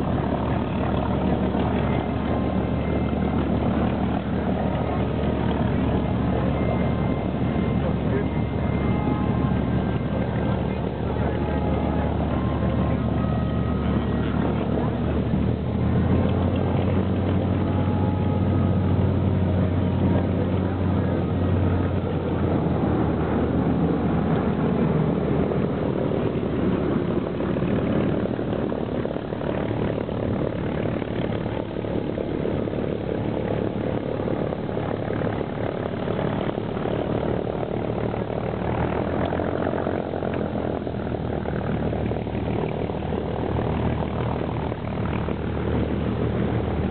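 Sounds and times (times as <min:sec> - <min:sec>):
propeller plane engines droning: 0:00.0 - 0:46.9.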